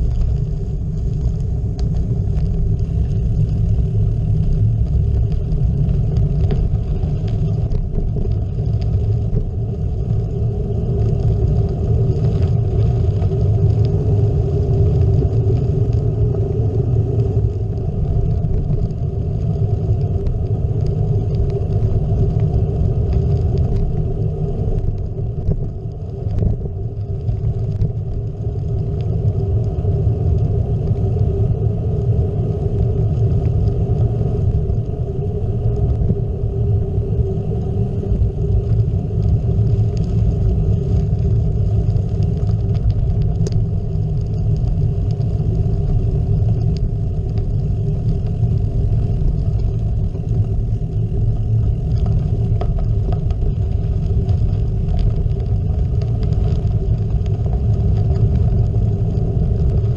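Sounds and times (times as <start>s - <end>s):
bike tyres rolling on gravel: 0.0s - 59.9s
wind buffeting camera: 0.0s - 59.9s.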